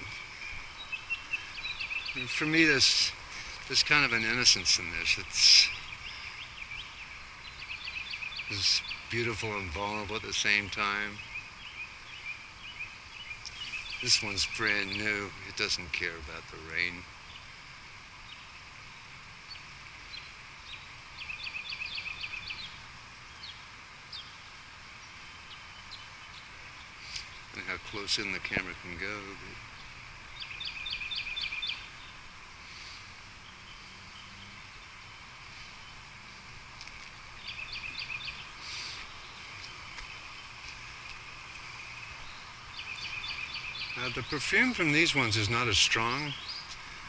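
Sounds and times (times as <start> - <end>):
songbird chirping: 0.0 - 47.0
steady outdoor hiss: 0.0 - 47.0.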